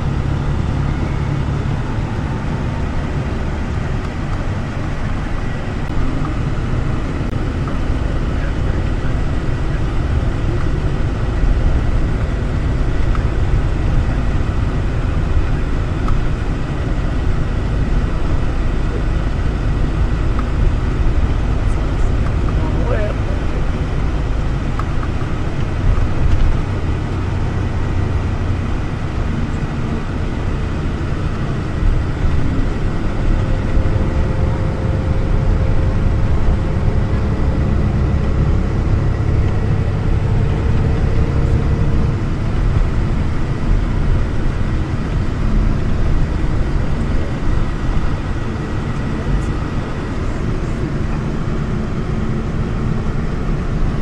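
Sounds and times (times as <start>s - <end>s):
low tone: 0.0s - 54.0s
train wheels rumbling: 0.0s - 54.0s.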